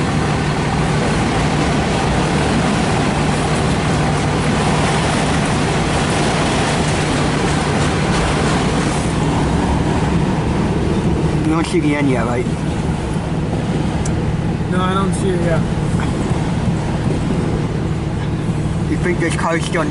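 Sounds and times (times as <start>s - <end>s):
constant low hum: 0.0s - 19.9s
freight train wheels rumbling: 0.0s - 19.9s.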